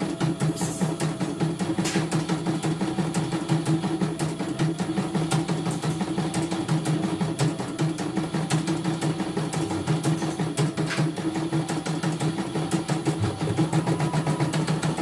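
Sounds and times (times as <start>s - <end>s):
embroidery machine stitching: 0.0s - 15.0s.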